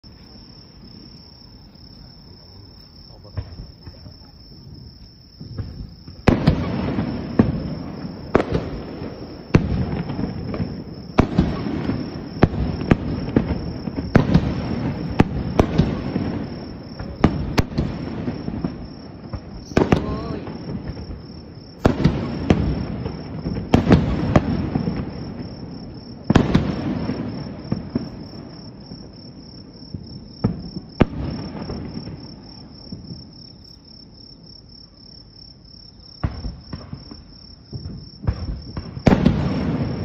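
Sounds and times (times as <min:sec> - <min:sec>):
insect chirring: 0:00.0 - 0:26.4, 0:27.1 - 0:39.1
fireworks bangs: 0:02.3 - 0:33.4, 0:36.1 - 0:40.0
fireworks crackle: 0:02.8 - 0:33.3, 0:36.2 - 0:40.0.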